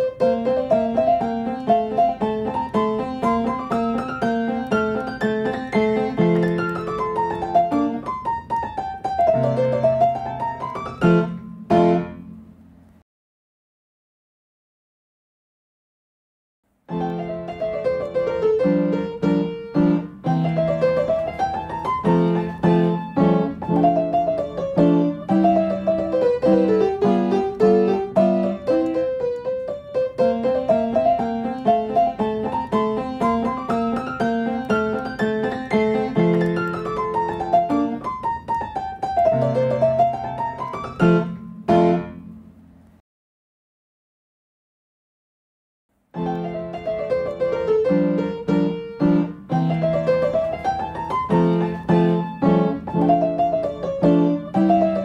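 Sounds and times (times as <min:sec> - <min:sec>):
piano music: 0:00.0 - 0:12.6, 0:16.9 - 0:42.7, 0:46.1 - 0:55.0.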